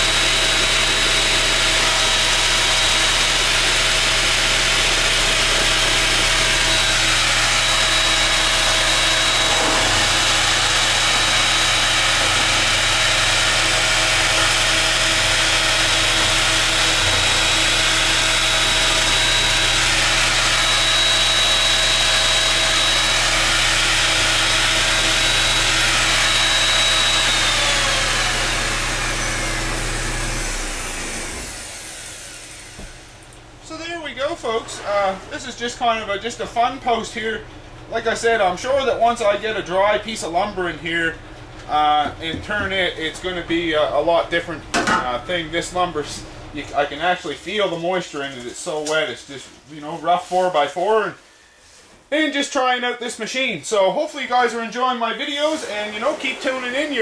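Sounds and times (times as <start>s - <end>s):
router cutting wood: 0.0s - 47.8s, 54.3s - 57.0s
wood router whining: 0.0s - 48.9s, 54.0s - 57.0s.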